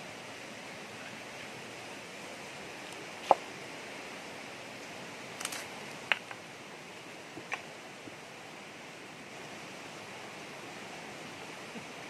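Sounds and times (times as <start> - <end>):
forest stream hissing: 0.0 - 12.0.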